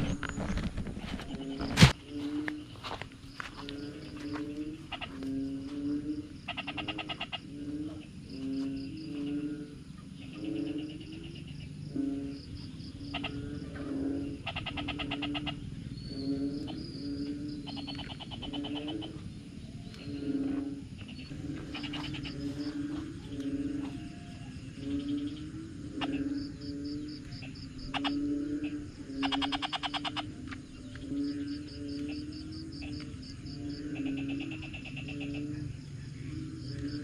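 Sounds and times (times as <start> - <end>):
frogs croaking: 0.0 - 37.0
frogs pulsed trills: 0.0 - 37.0.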